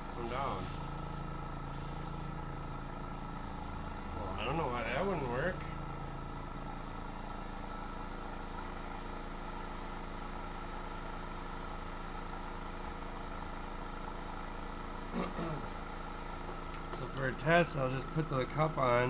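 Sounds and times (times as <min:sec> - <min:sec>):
airbrush compressor humming: 0:00.0 - 0:19.0.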